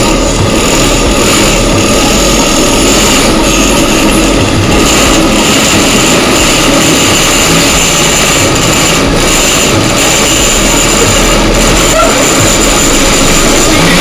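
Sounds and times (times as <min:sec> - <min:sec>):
jet engine roaring with whine: 0:00.0 - 0:14.0.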